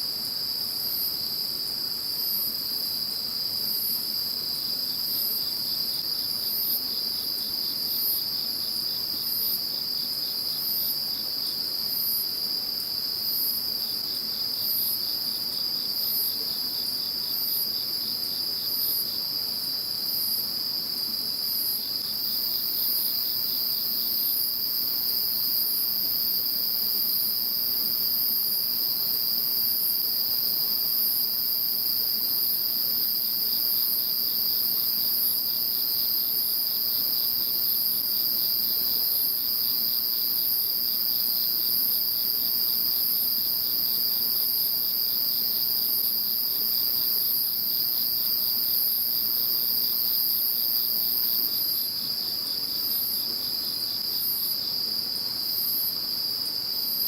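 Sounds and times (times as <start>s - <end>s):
insect continuous high trill: 0.0s - 57.0s
insect high chirp: 0.0s - 57.0s
insect very high steady trill: 0.0s - 57.0s.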